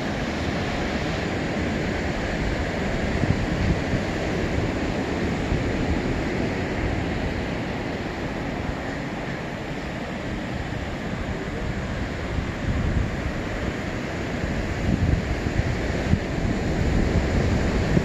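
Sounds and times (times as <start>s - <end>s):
ocean surf: 0.0s - 18.0s
wind: 0.0s - 18.0s.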